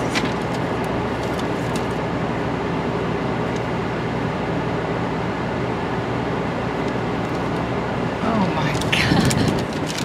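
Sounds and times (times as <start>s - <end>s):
car engine idling hum: 0.0s - 10.0s.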